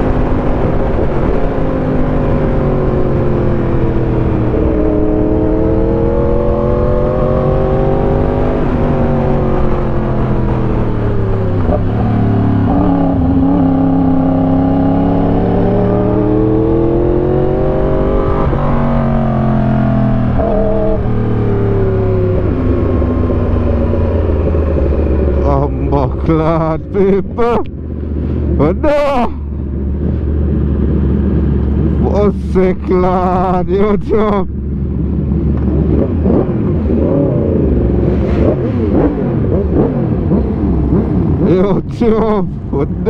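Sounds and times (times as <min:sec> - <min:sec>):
motorcycle engine revving: 0:00.0 - 0:32.2, 0:33.1 - 0:43.0.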